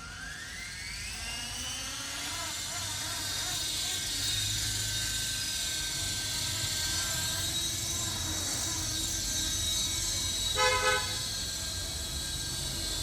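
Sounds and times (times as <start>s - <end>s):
rc helicopter rotors whining: 0.0s - 13.0s.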